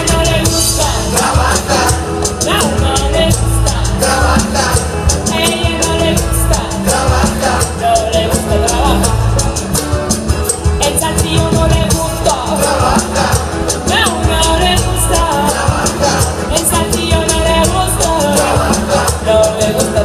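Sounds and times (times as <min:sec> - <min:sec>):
woman singing: 0:00.0 - 0:09.4, 0:10.8 - 0:20.0
live band through pa: 0:00.0 - 0:20.0.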